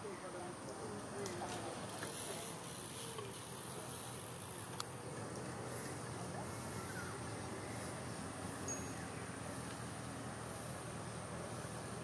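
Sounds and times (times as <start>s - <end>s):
distant traffic rumble: 0.0s - 12.0s
insects chirping: 0.0s - 12.0s.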